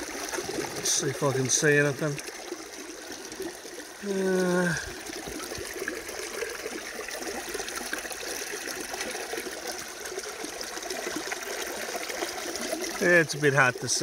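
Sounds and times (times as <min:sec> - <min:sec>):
water rippling and trickling: 0:00.0 - 0:14.0.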